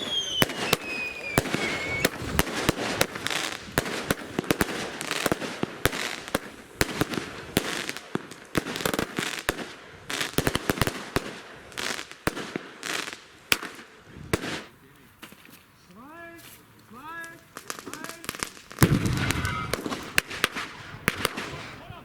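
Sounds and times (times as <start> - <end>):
firework bangs: 0.0 - 15.6, 17.2 - 22.0
firework crackling: 0.0 - 22.0.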